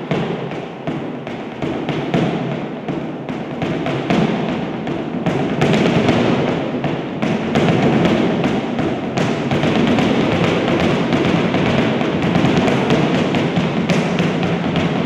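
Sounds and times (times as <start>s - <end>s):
dance shoes tapping and stamping: 0.0s - 15.0s.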